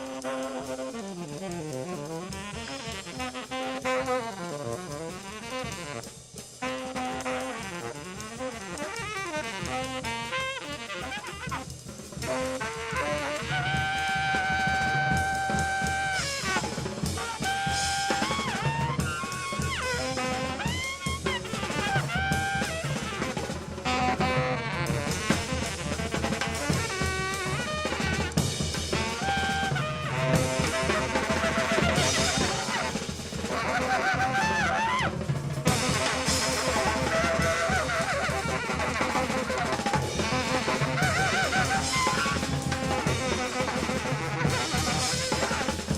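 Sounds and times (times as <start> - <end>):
drum kit beat: 0.0 - 45.9
jazzy tune with brass lead: 0.0 - 45.9.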